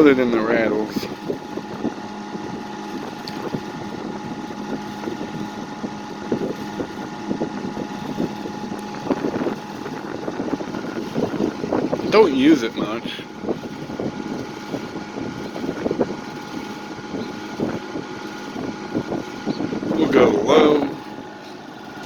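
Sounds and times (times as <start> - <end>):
fan grille rattling: 0.0 - 22.0
fan motor hum and air rush: 0.0 - 22.0.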